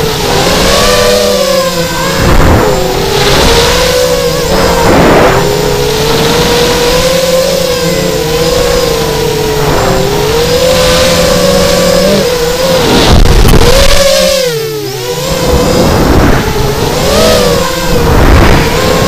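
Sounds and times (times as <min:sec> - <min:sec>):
bursts of rushing noise: 0:00.0 - 0:19.0
quadcopter motors whining: 0:00.0 - 0:19.0.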